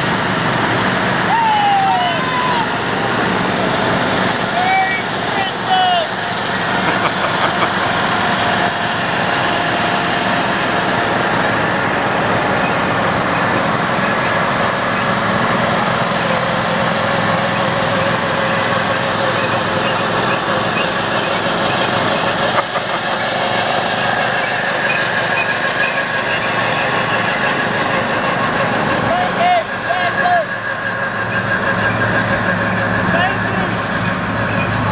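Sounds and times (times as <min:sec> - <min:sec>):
lawn mower engines running: 0:00.0 - 0:34.9.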